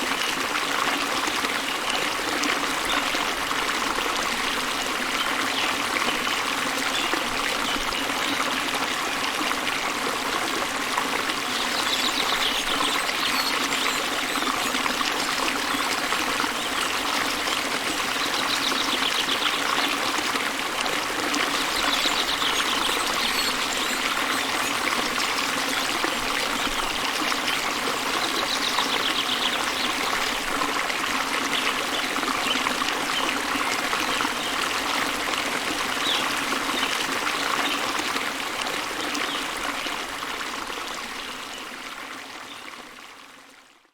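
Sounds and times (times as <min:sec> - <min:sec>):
small waterfall rushing: 0:00.0 - 0:43.6.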